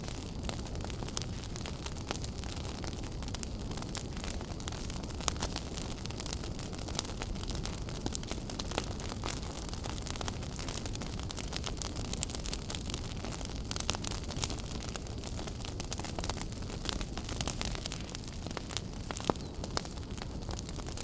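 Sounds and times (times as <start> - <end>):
fire crackles and pops: 0.0 - 21.0
wood fire burning: 0.0 - 21.0.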